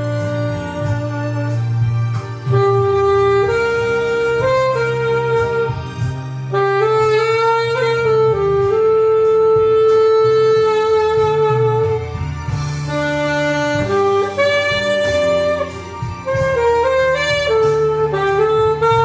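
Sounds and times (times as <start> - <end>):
alto saxophone melody: 0.0 - 19.0
karaoke backing track: 0.0 - 19.0.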